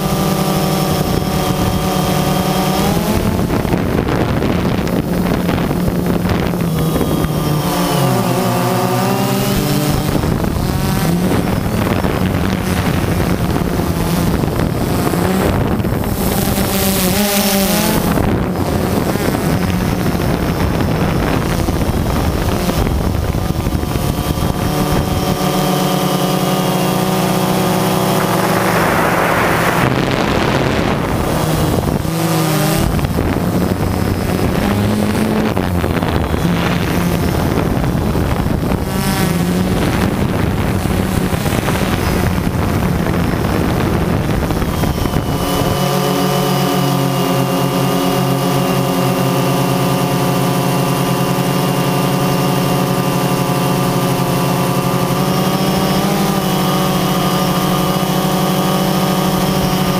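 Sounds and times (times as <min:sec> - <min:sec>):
drone propellers droning: 0:00.0 - 0:59.9
wind buffeting microphone: 0:00.0 - 0:59.9.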